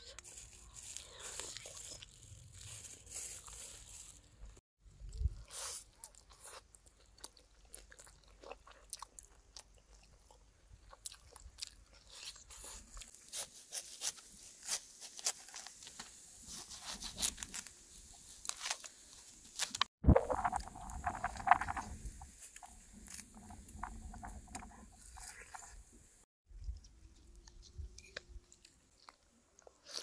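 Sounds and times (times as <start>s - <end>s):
person chewing crunchy food: 0.0s - 4.2s, 5.0s - 15.9s, 19.6s - 25.9s, 27.2s - 30.0s.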